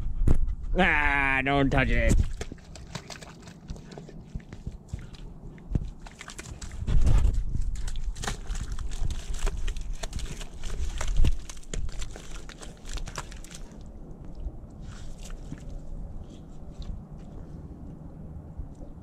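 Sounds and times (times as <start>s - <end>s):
puppy digging in mud: 2.0s - 18.3s.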